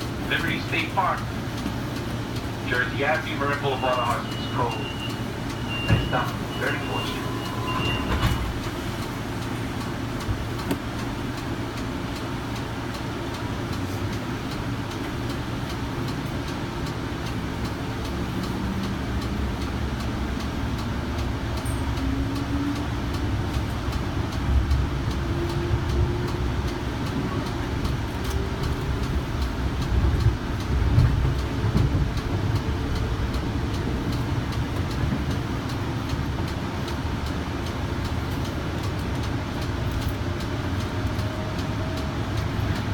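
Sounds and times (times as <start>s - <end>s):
wheels rumbling on rail: 0.0s - 42.9s.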